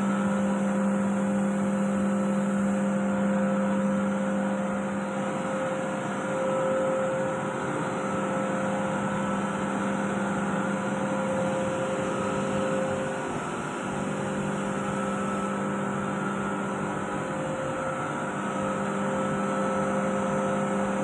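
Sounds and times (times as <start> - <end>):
air compressor humming and whining: 0.0 - 21.0.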